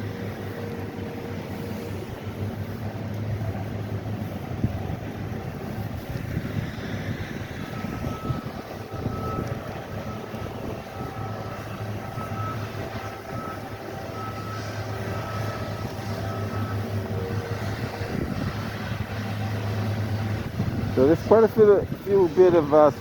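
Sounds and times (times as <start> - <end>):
heavy machinery engine hum: 0.0 - 23.0
reversing alarm beeping: 3.4 - 23.0.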